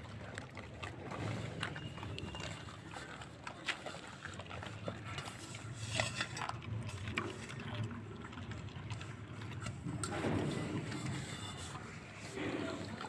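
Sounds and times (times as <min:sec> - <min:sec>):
puppies chewing and lapping: 0:00.0 - 0:13.0.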